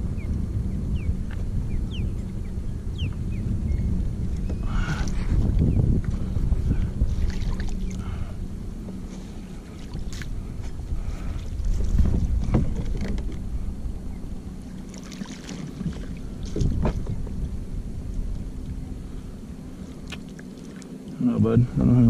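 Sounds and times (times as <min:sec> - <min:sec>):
wind on microphone: 0:00.0 - 0:20.1
water against kayak hull: 0:00.0 - 0:21.2.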